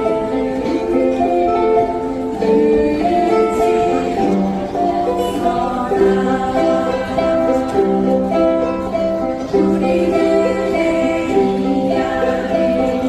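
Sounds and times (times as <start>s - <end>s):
group singing: 0.0s - 13.0s
ukulele ensemble strumming: 0.0s - 13.0s.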